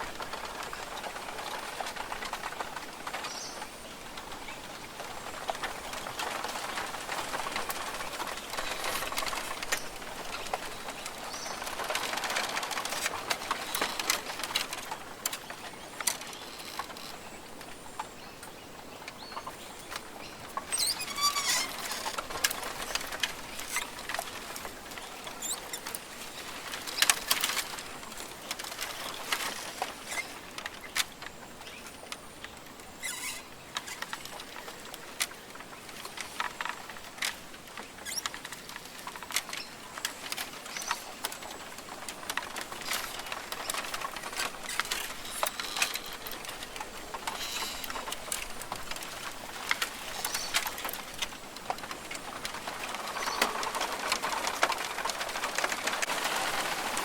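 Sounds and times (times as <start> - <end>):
rainforest hiss: 0.0 - 57.0.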